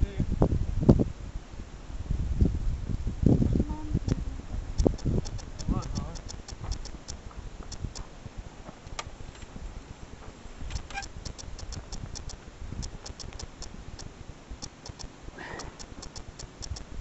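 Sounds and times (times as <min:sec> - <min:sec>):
wind rumble on microphone: 0:00.0 - 0:14.6.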